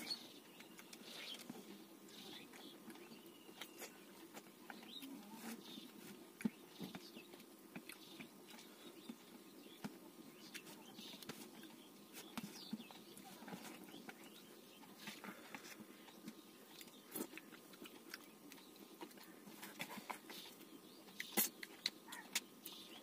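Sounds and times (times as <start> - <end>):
chewing: 0.5 - 9.8, 10.4 - 23.0.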